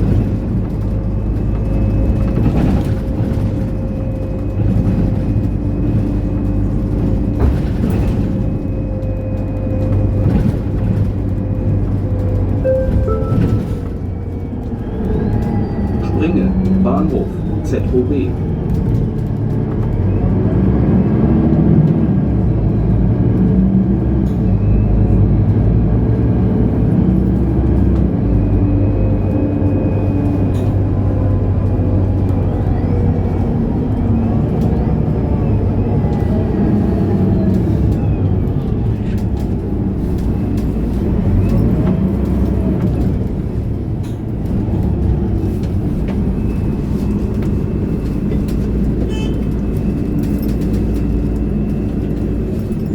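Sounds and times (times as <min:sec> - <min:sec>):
bus diesel engine hum: 0:00.0 - 0:52.9
road noise: 0:00.0 - 0:52.9.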